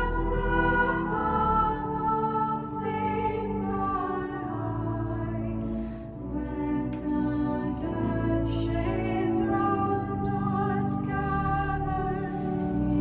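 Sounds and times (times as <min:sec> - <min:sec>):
women's choir singing a hymn: 0:00.0 - 0:13.0.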